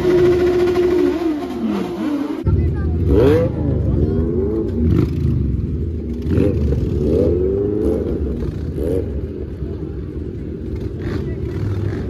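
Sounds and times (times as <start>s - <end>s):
low engine rumble: 0.0s - 12.0s
motorcycle engines revving: 0.0s - 12.0s.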